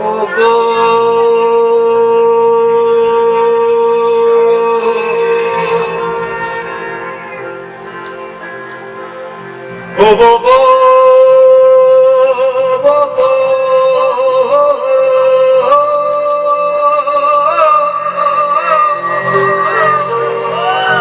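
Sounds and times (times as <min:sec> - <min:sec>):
band backing: 0:00.0 - 0:21.0.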